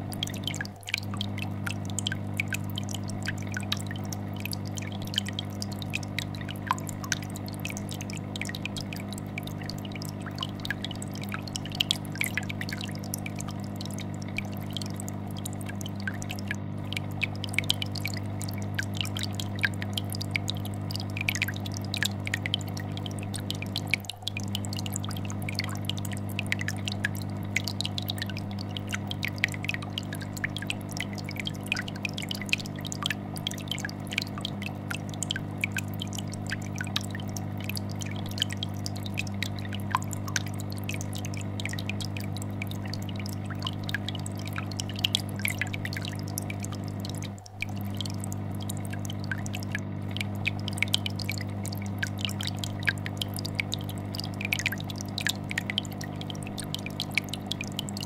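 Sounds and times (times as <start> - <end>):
bubbles popping and dripping: 0.0 - 58.0
fish tank filter humming: 0.0 - 58.0.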